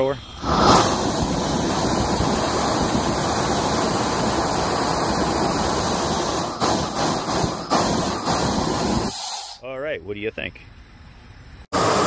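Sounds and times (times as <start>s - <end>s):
propane torch hissing: 0.0s - 9.6s, 11.8s - 12.0s.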